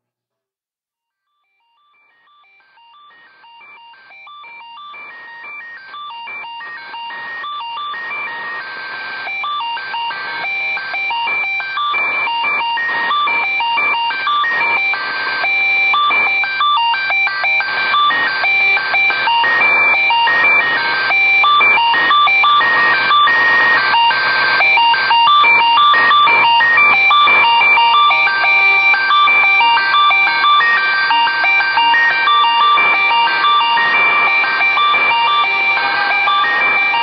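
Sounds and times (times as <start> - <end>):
electronic music of beeping tones: 1.9 - 37.0.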